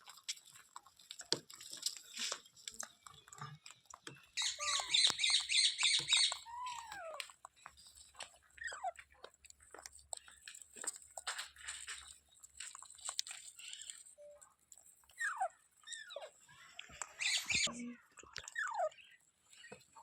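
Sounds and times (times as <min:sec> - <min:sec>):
small clicks and crunches: 0:00.0 - 0:20.0.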